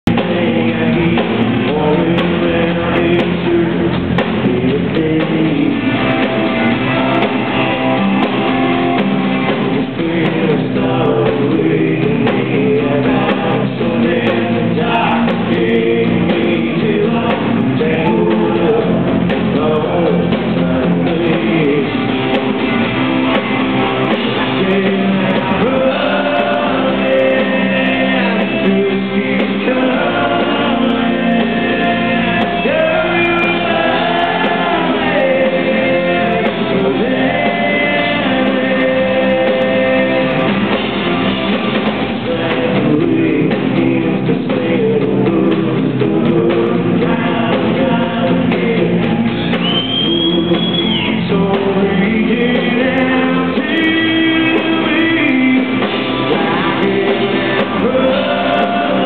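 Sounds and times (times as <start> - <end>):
acoustic guitar: 0.0 - 59.0
country-rock band playing live: 0.0 - 59.0
electric guitar: 0.0 - 59.0
man singing: 0.0 - 59.0.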